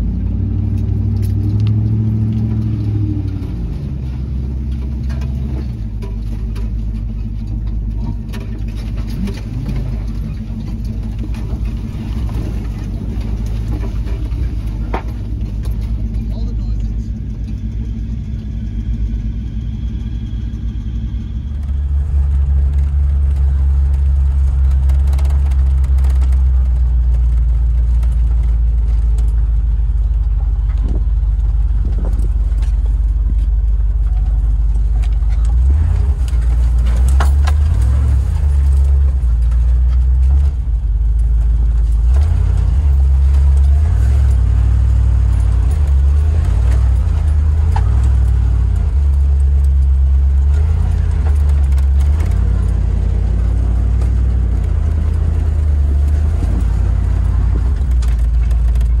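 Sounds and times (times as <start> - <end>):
engine and tyres rumbling: 0.0 - 59.0
knocks and rattles: 0.4 - 59.0.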